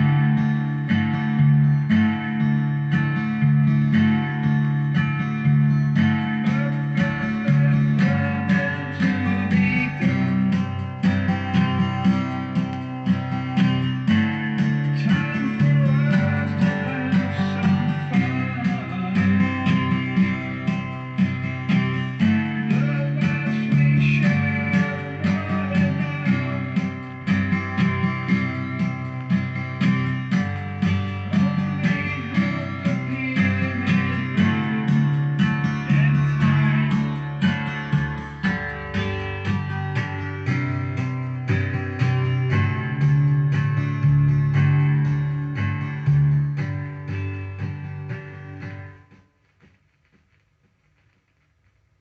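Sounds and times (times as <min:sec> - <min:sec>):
sustained low bass notes: 0:00.0 - 0:49.2
picked guitar notes: 0:00.0 - 0:49.5.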